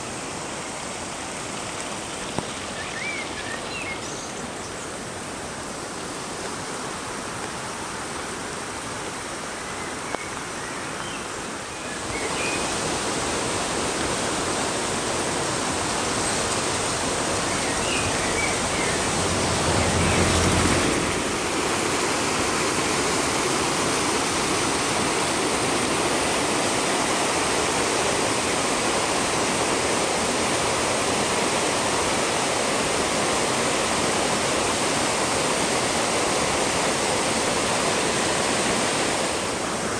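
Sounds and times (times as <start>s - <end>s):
floodwater rushing over rocks: 0.0s - 39.9s.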